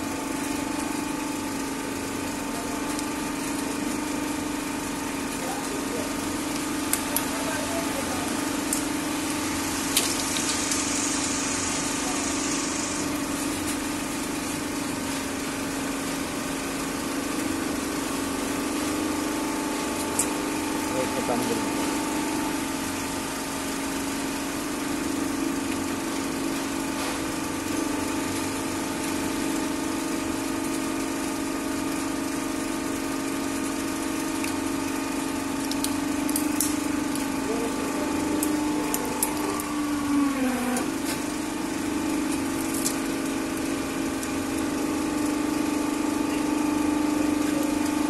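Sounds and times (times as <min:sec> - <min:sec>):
hydraulic press humming: 0:00.0 - 0:28.4, 0:34.6 - 0:48.0.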